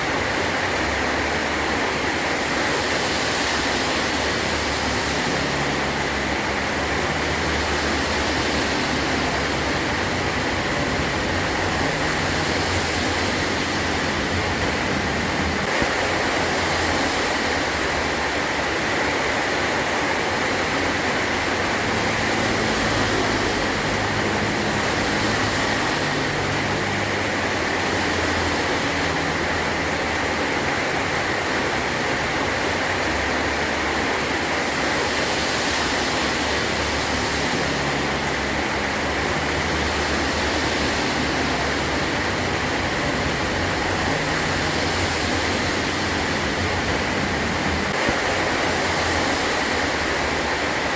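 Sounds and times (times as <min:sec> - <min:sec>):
heavy rain on a metal roof: 0:00.0 - 0:50.9.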